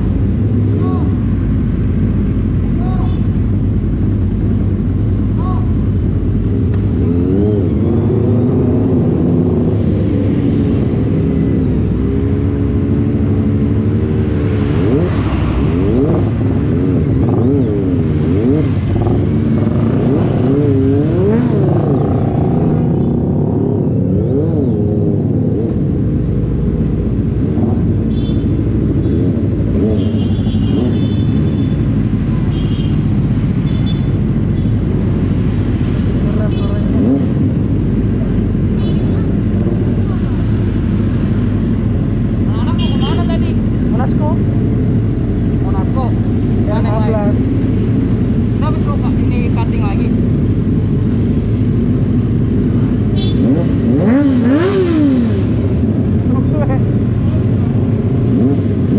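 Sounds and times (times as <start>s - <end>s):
motorcycle engines revving: 0.0s - 58.9s.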